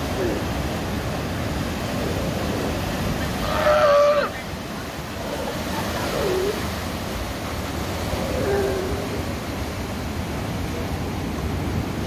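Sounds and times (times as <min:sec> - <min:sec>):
ocean surf on rocky shore: 0:00.0 - 0:12.0.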